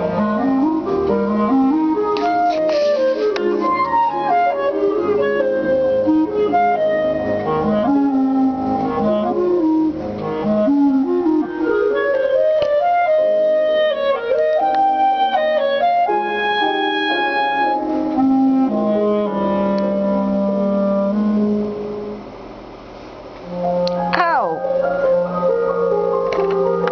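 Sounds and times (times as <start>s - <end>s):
clarinet melody: 0.0s - 22.4s, 23.4s - 26.9s.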